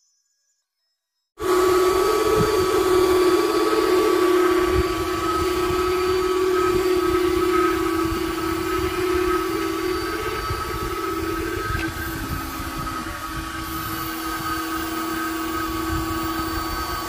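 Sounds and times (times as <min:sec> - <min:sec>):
suction fan whine: 0:01.4 - 0:17.0.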